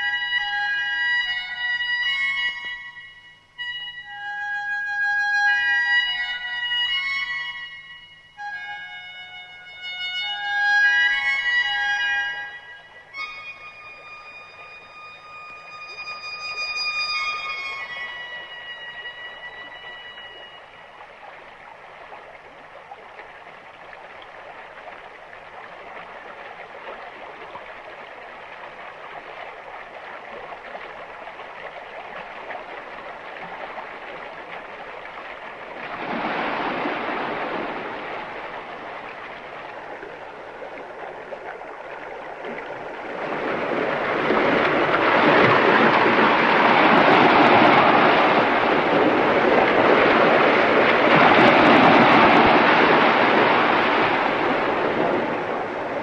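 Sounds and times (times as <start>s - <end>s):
rushing river rapids: 0.0s - 56.0s.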